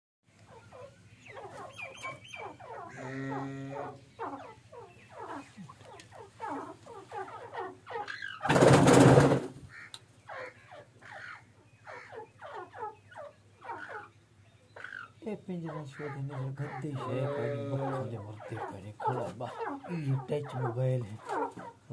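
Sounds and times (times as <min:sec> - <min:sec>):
francolins downward-sliding calls: 0:00.4 - 0:08.5, 0:09.7 - 0:21.9.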